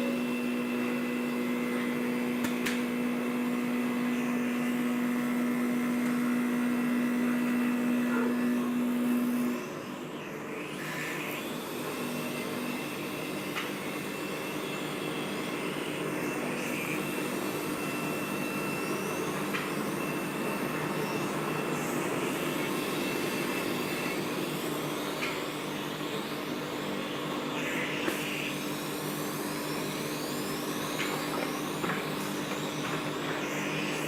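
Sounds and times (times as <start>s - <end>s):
lathe mechanical whir: 0.0s - 34.0s.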